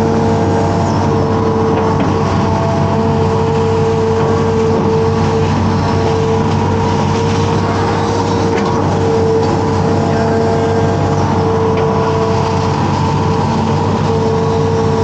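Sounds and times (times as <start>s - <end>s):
constant whine: 0.0s - 15.0s
excavator diesel engine running: 0.0s - 15.0s.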